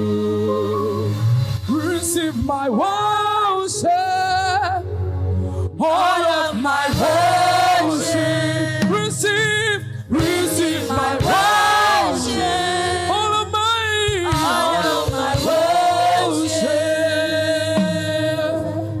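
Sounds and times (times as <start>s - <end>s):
voices singing in harmony: 0.0s - 3.1s, 5.6s - 19.0s.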